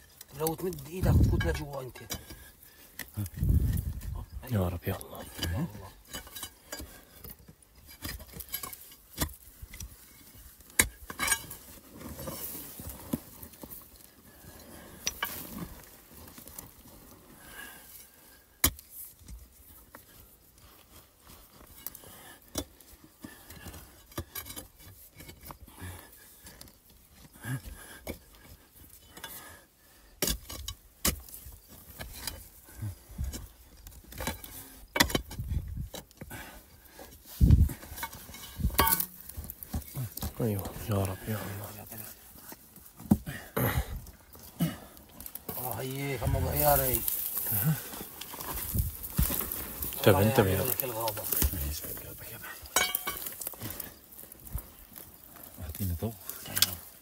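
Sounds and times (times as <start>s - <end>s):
metal tool scraping stone and soil: 0.0s - 57.0s.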